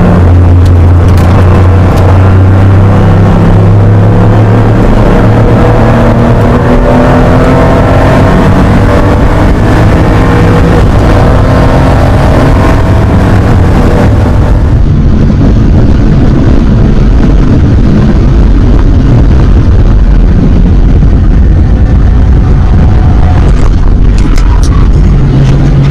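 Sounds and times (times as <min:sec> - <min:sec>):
car engine revving: 0:00.0 - 0:25.9
engine and road noise rumble: 0:00.0 - 0:25.9.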